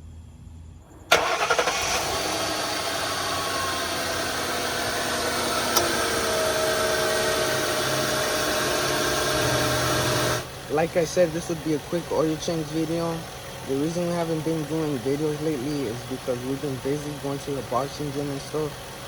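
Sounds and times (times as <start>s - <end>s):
car engine starting and idling: 0.9s - 19.0s.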